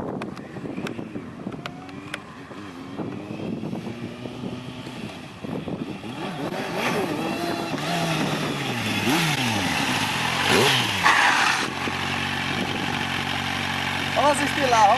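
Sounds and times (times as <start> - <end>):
motorcycle engine revving: 0.2 - 14.9.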